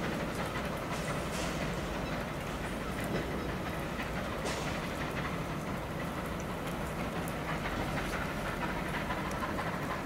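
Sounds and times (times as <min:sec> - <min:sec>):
train coaches rolling: 0:00.0 - 0:10.0.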